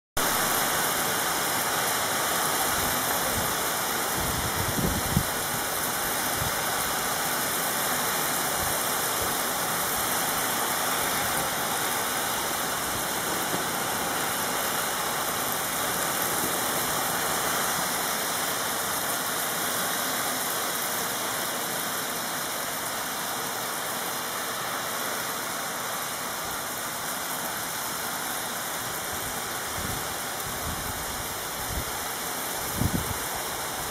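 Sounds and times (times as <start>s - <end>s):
hail hissing on roofs: 0.2s - 33.9s.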